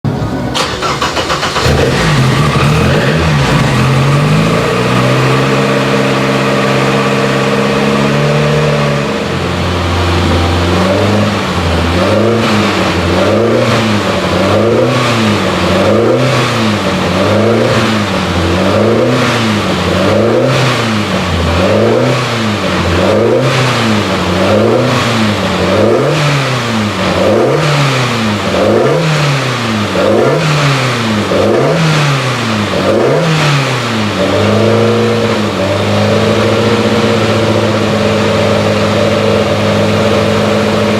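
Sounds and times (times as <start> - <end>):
race car engine revving: 0.1 - 40.9.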